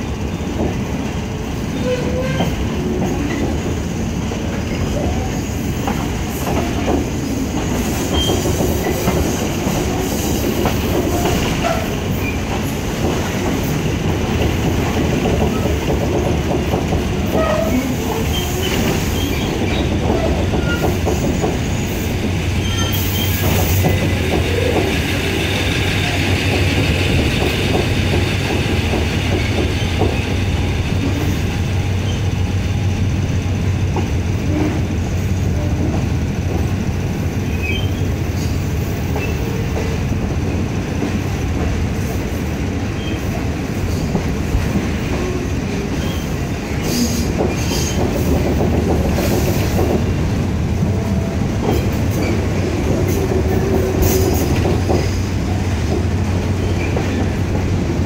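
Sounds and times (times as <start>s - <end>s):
train carriage rumbling: 0.0s - 58.0s.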